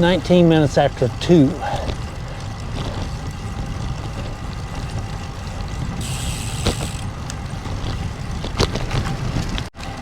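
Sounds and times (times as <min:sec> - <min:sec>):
wind buffeting microphone: 0:00.0 - 0:09.7
bike tyre rumble on pavement: 0:00.0 - 0:10.0.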